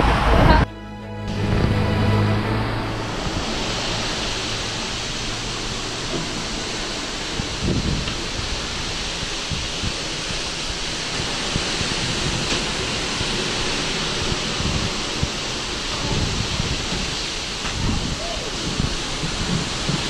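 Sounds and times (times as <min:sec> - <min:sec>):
seawater rushing along ship hull: 0:00.0 - 0:20.0
wind buffeting microphone: 0:02.8 - 0:20.0.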